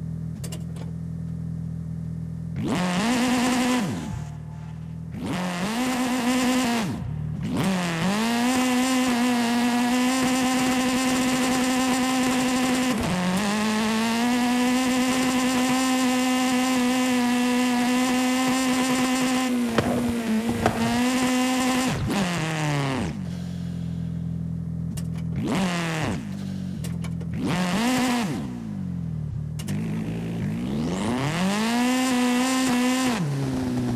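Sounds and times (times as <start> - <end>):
video game car engine: 0.0 - 33.9.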